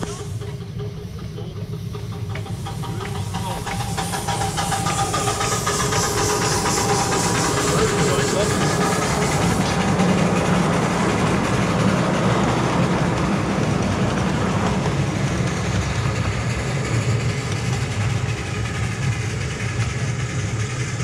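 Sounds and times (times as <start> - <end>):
train running on track: 0.0 - 21.0.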